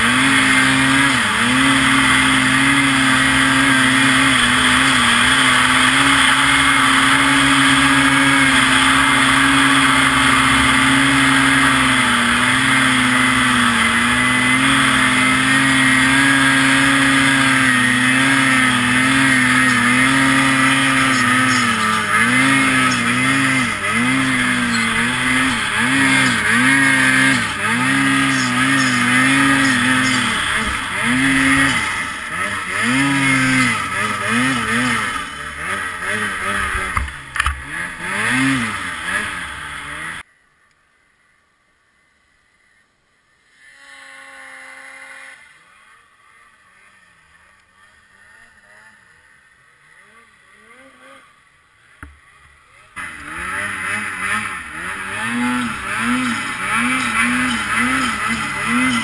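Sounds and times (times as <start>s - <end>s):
snowmobile engine revving: 0.0s - 40.3s, 43.5s - 59.0s.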